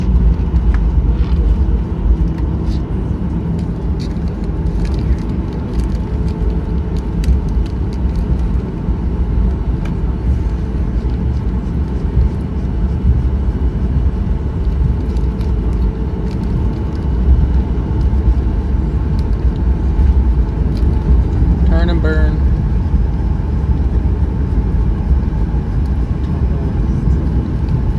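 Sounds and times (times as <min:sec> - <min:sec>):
airliner cabin rumble: 0:00.0 - 0:27.9.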